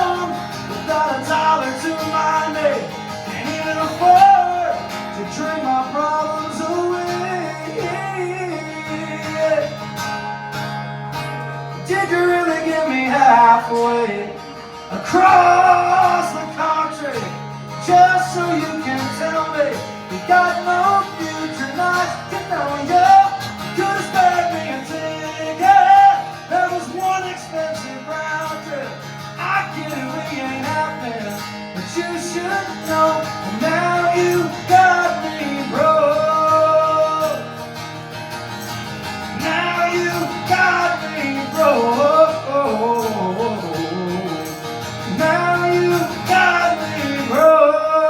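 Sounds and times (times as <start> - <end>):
acoustic guitar strumming: 0.0 - 48.0
person singing country song: 0.0 - 48.0.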